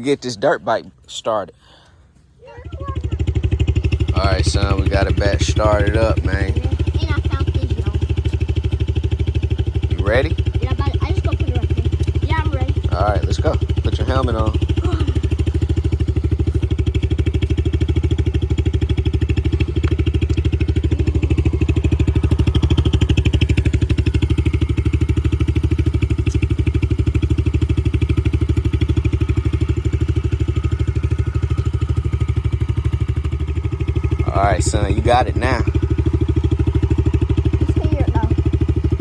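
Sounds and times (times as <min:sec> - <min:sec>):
dirt bike engine idling: 0:00.0 - 0:39.0.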